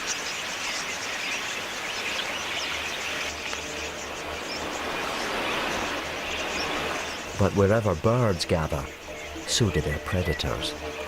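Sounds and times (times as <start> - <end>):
flock of budgerigars chirping: 0.0 - 11.0.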